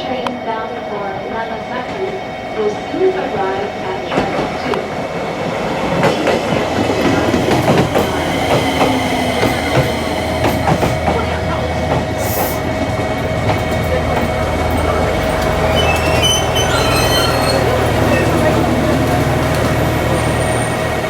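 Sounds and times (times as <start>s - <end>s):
train low rumble: 0.0s - 21.0s
wheels clicking over rail joints: 4.1s - 21.0s.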